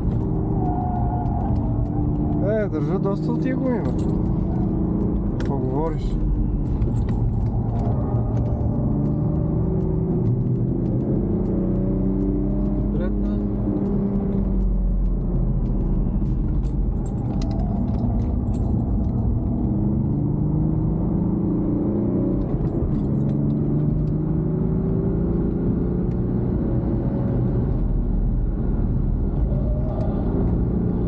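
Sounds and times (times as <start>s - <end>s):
car engine accelerating: 0.0s - 31.0s
road and tyre noise: 0.0s - 31.0s.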